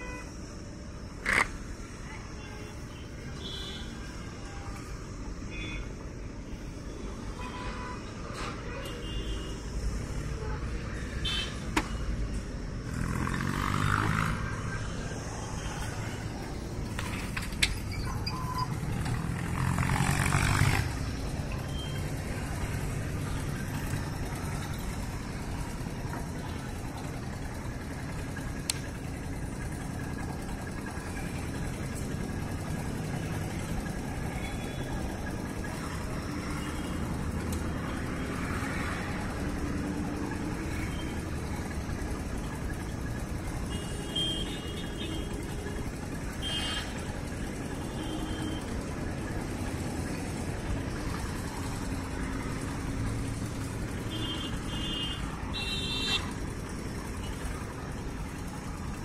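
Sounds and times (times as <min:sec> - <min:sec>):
motor vehicle rumbling: 0:00.0 - 0:59.0.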